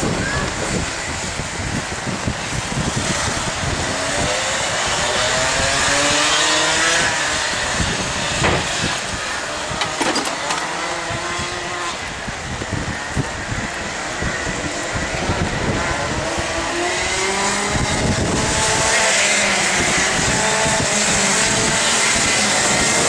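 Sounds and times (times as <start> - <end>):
kart engines accelerating: 0.0 - 23.0
wind buffeting microphone: 0.0 - 23.0.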